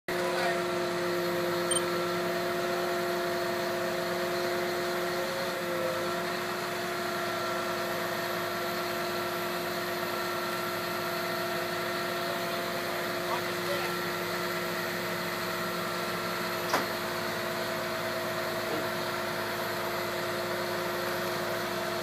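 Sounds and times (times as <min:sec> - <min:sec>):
engine idling: 0:02.2 - 0:22.0.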